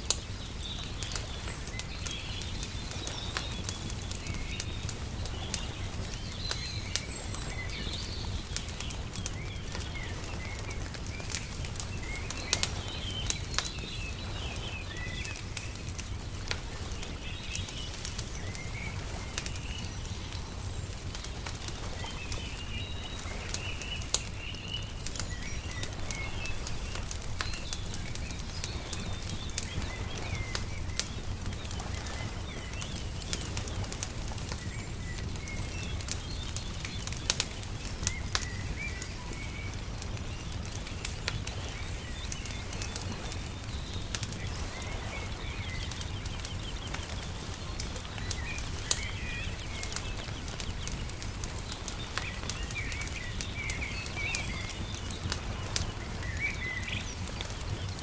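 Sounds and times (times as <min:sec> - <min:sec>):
small birds chirping: 0:00.0 - 0:58.0
wood fire crackling and popping: 0:00.0 - 0:58.0.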